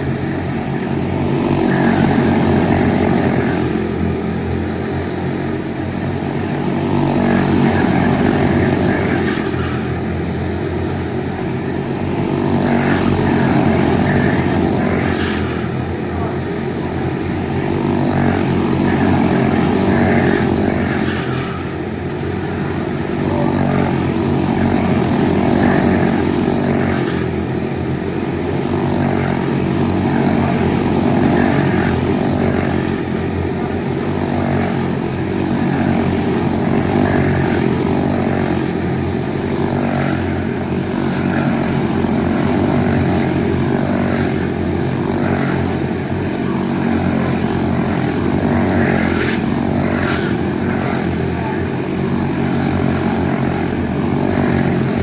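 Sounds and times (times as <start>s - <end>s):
race car engines running hard: 0.0s - 55.0s.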